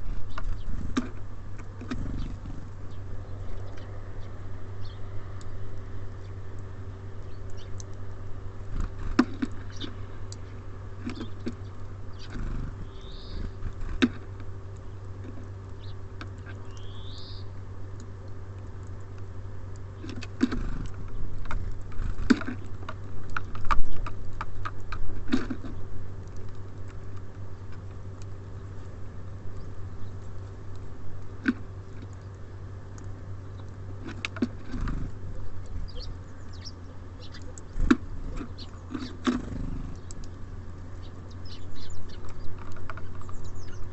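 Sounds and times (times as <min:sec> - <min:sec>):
birds pecking at feeder: 0:00.0 - 0:43.9
steady low hum: 0:00.0 - 0:43.9.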